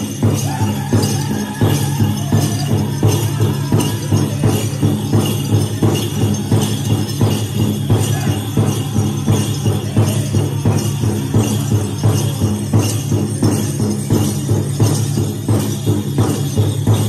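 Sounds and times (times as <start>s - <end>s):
jingling bells: 0.0s - 17.0s
large drum beat: 0.0s - 17.0s.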